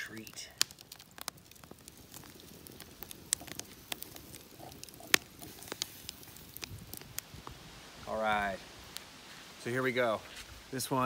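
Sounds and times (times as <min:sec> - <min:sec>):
campfire crackling and popping: 0:00.0 - 0:11.0
low fire hiss: 0:00.0 - 0:11.0.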